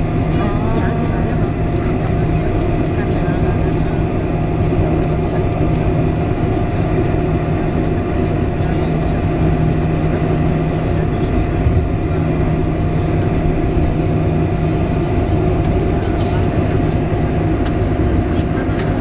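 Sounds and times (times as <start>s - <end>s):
jet engines droning in cabin: 0.0s - 19.0s.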